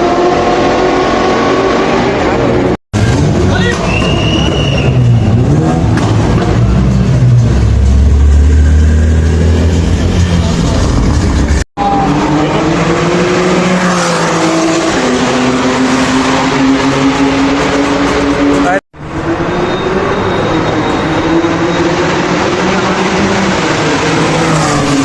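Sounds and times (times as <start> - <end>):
loud engines revving: 0.0 - 25.0.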